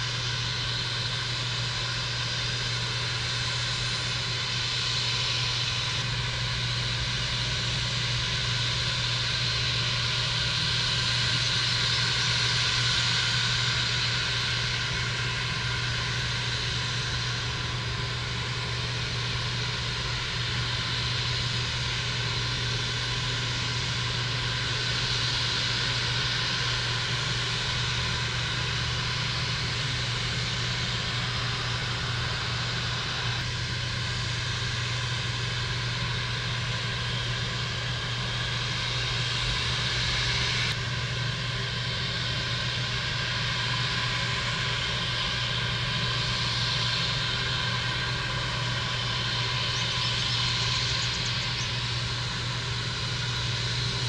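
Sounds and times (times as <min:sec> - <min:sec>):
aircraft jet noise: 0:00.0 - 0:54.0.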